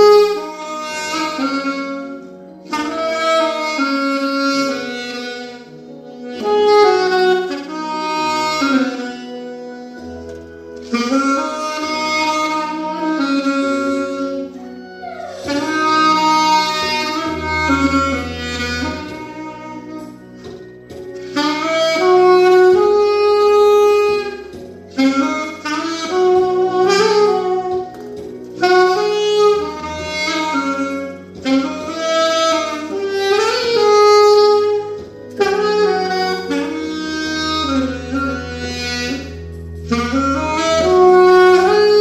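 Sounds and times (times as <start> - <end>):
backing accompaniment: 0.0 - 42.0
saxophone melody: 0.0 - 42.0.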